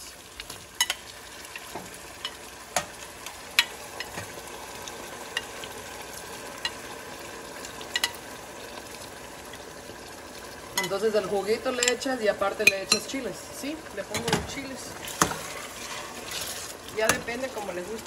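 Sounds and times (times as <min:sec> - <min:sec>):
sauce sizzling in a pan: 0:00.0 - 0:18.0.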